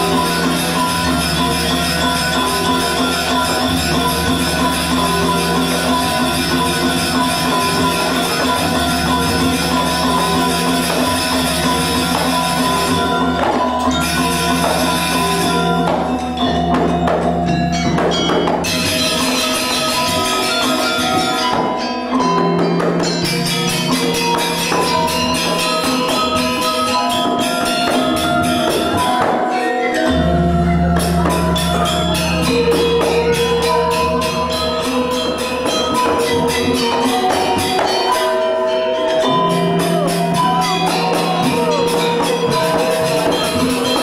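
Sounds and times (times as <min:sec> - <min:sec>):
low sustained tones: 0:00.0 - 0:44.0
metallophones ringing a melody: 0:00.0 - 0:44.0.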